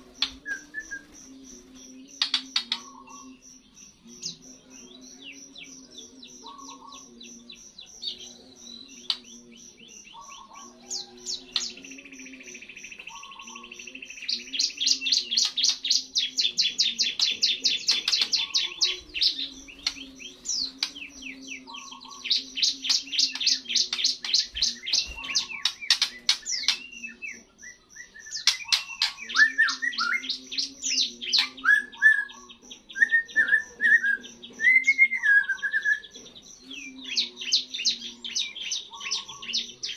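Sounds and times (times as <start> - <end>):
bird singing rapid twitters: 0.0 - 39.9.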